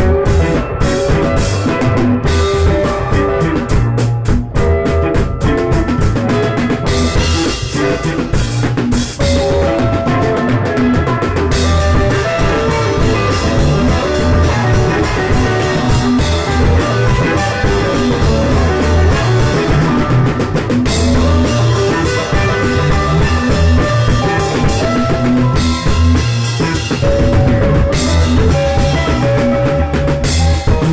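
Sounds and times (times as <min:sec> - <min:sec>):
drum kit beat: 0:00.0 - 0:30.9
electric guitar: 0:00.0 - 0:30.9.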